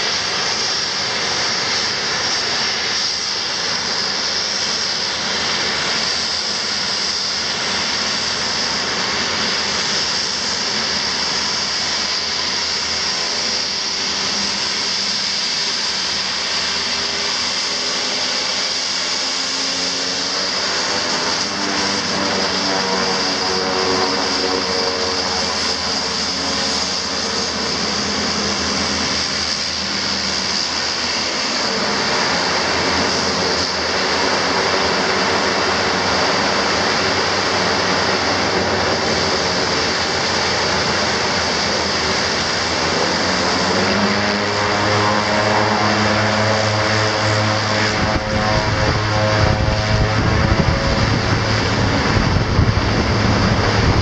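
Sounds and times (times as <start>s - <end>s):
propeller drone: 0.0s - 54.0s
turbine whine: 0.0s - 54.0s.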